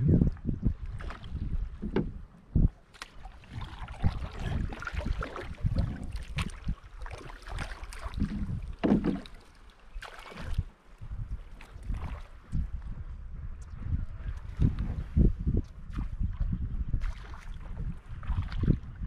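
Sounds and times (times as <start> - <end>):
wind on microphone: 0.0 - 19.0
water sloshing against hull: 0.2 - 13.0, 14.3 - 19.0.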